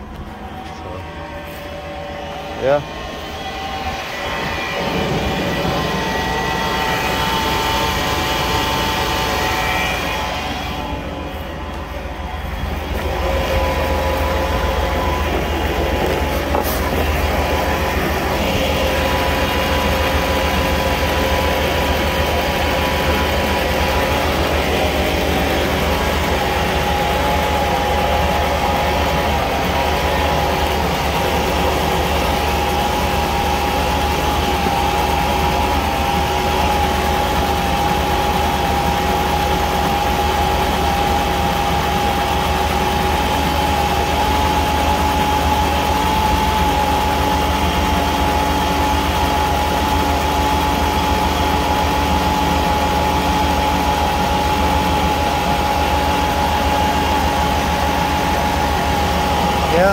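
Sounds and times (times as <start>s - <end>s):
pickup engine idling with whine: 0.0s - 59.9s.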